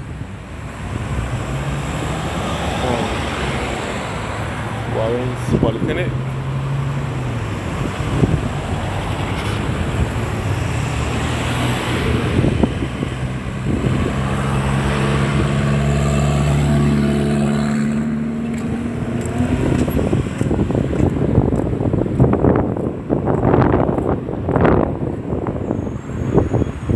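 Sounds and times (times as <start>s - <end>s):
car engine hum: 0.0s - 26.9s
tyre and road noise: 0.0s - 26.9s.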